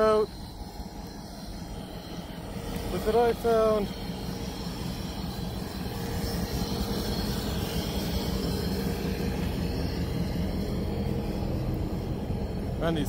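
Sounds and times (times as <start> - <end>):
locomotive engine idling: 0.0 - 13.0.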